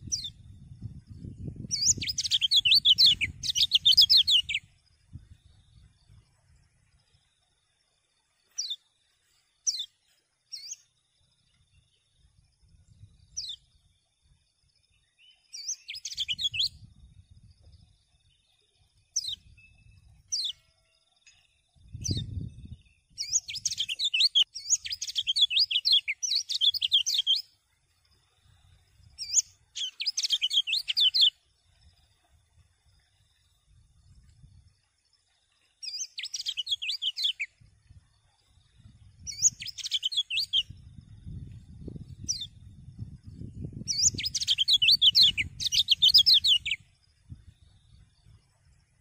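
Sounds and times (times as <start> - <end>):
bird chirping: 0.0 - 0.4, 1.0 - 49.0
bird twittering song: 0.0 - 49.0.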